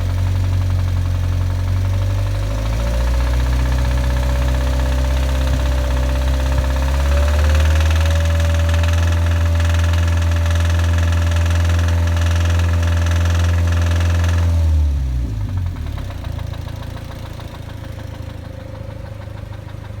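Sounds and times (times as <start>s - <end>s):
car engine idling with knocking: 0.0s - 20.0s.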